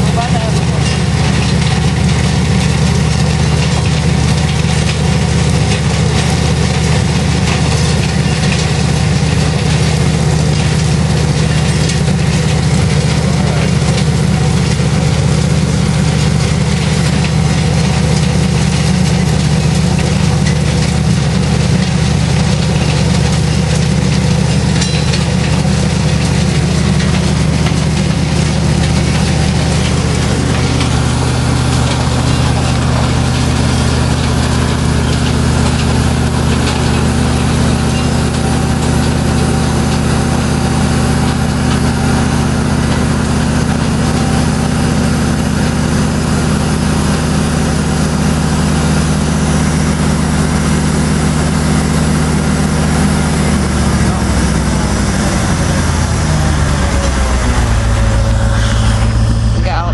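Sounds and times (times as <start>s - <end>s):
diesel train engine idling: 0.0s - 59.9s.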